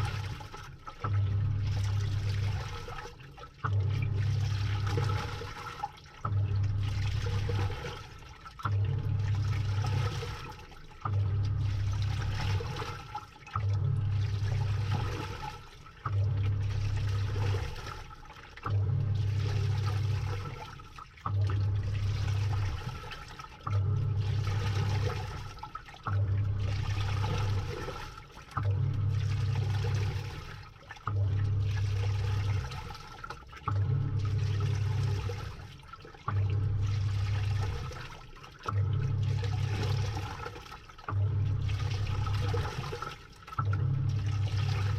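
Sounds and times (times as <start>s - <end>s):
washing machine motor agitating: 0.0s - 44.9s
water and clothes sloshing: 0.0s - 44.9s.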